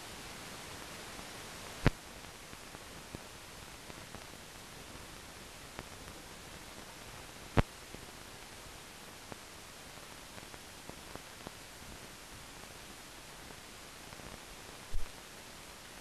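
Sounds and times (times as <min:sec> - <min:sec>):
film soundtrack surface hiss: 0:00.0 - 0:16.0.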